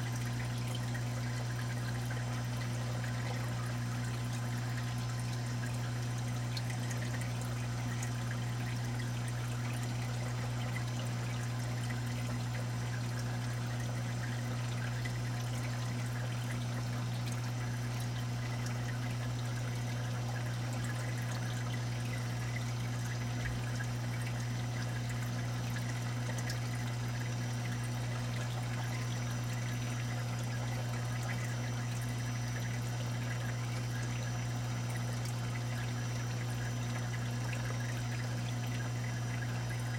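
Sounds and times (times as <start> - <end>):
pump humming: 0.0 - 39.9
water trickling and splashing: 0.0 - 39.9.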